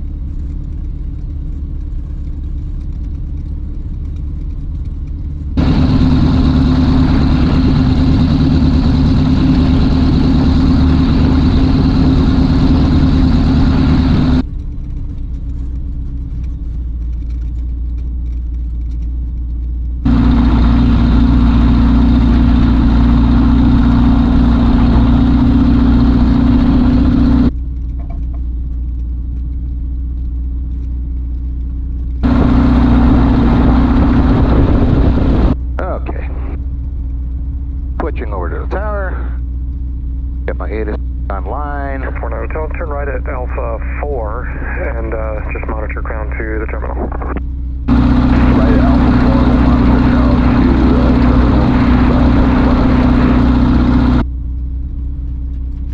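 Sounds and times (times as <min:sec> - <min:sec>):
light aircraft engine droning: 0:00.0 - 0:55.9.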